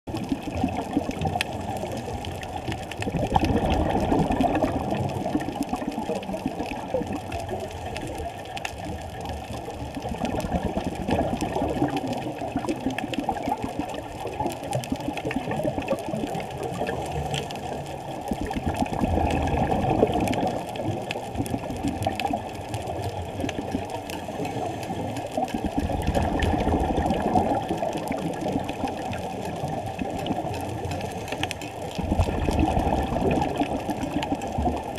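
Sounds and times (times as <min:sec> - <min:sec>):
exhaled bubbles: 0:00.1 - 0:34.9
faint crackling: 0:00.1 - 0:34.9
muffled underwater noise: 0:00.1 - 0:34.9
scuba breathing: 0:00.2 - 0:09.2, 0:14.8 - 0:34.8.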